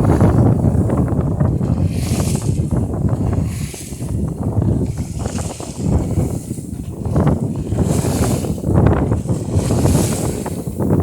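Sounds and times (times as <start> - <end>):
water splashing against hull: 0.0 - 11.0
wind buffeting microphone: 0.0 - 11.0.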